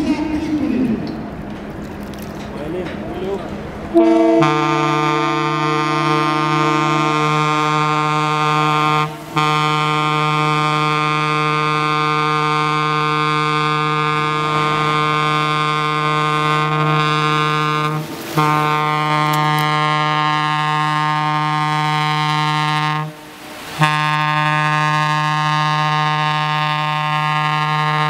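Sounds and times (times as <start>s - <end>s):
ship's horn blasts: 3.8s - 28.0s.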